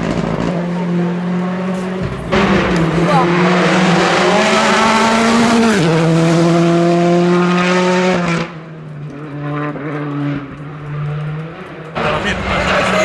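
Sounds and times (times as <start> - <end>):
distant engine: 0.0 - 13.0
rally car engine passing: 0.0 - 13.0.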